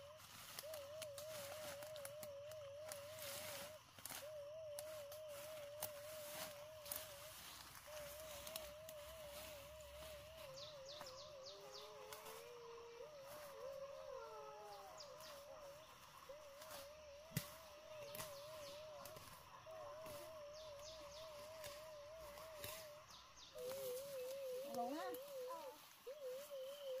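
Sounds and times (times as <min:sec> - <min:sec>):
high falling bird chirps: 0:00.0 - 0:27.0
warbling bird call: 0:00.0 - 0:27.0.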